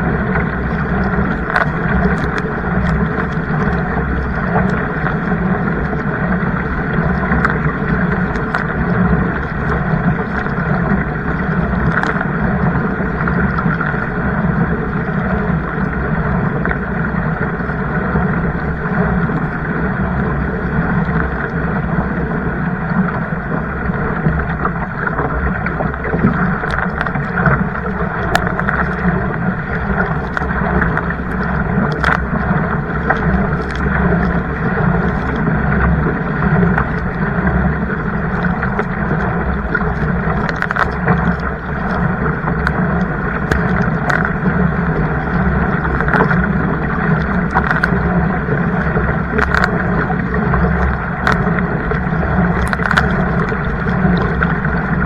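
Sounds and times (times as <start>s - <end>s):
water rushing: 0.0s - 55.0s
wind on microphone: 0.0s - 55.0s.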